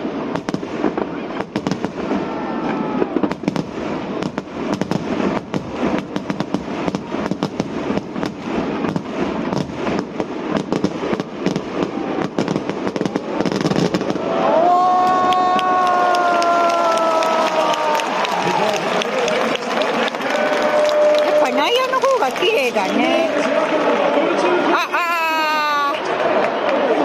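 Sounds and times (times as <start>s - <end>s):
fireworks bangs and crackles: 0.0s - 26.4s.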